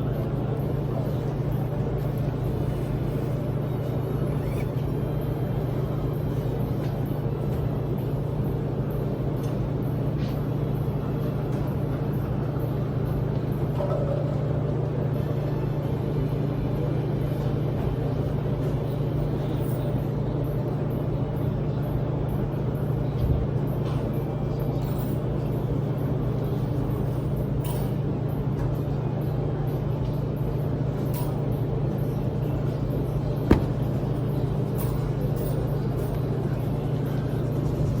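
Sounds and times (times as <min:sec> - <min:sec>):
laundromat machines droning: 0:00.0 - 0:38.0
washers and dryers humming: 0:00.0 - 0:38.0.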